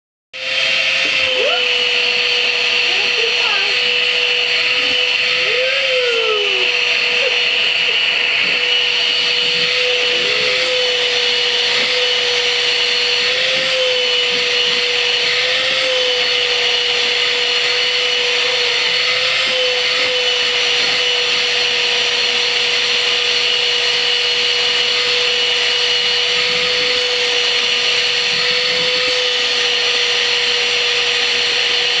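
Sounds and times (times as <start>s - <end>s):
vacuum cleaner running: 0.4s - 32.0s.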